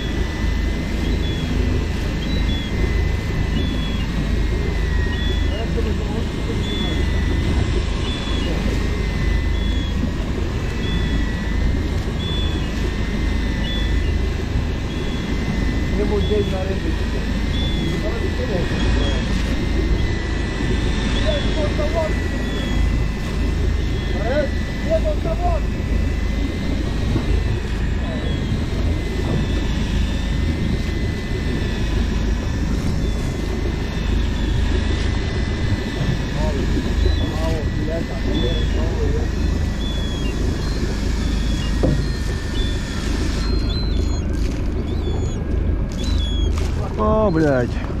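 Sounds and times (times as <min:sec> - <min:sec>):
boat engine rumbling: 0:00.0 - 0:48.0
thin wavering whine: 0:00.0 - 0:48.0.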